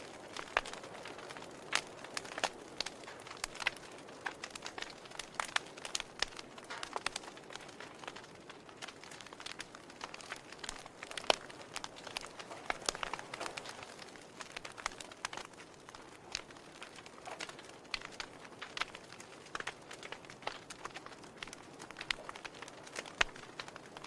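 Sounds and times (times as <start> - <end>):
fireplace fire crackling: 0.0 - 24.0
sharp pops and snaps: 0.3 - 24.0.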